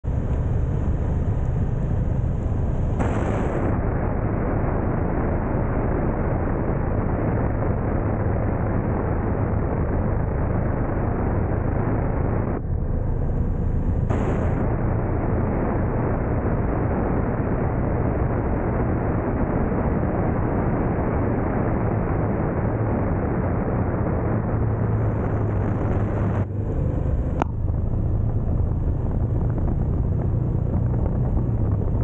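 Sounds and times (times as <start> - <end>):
motorcycle engine drone: 0.0 - 32.0
wind buffeting microphone: 0.0 - 32.0.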